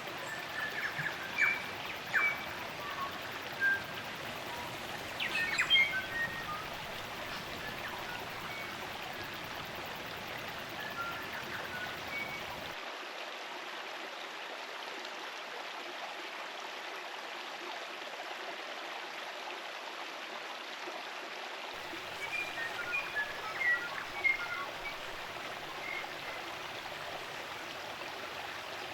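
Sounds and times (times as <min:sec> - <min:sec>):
stream running water: 0:00.0 - 0:28.9.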